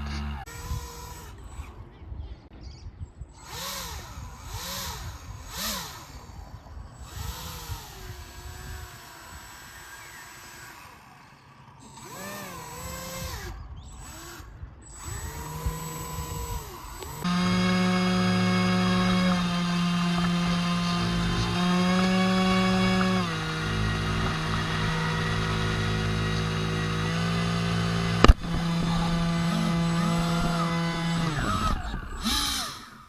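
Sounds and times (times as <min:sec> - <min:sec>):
electric motor whining: 0:00.0 - 0:02.0, 0:03.2 - 0:33.0
loud steady hum: 0:00.0 - 0:33.0.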